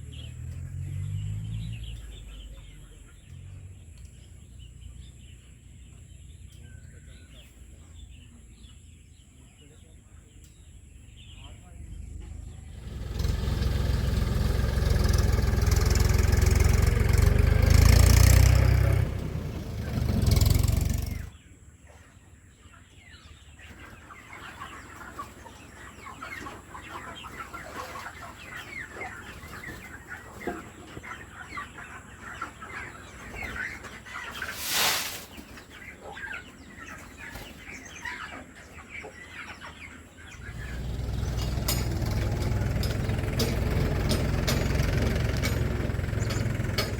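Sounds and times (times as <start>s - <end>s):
chickens clucking and peeping: 0.0s - 46.9s.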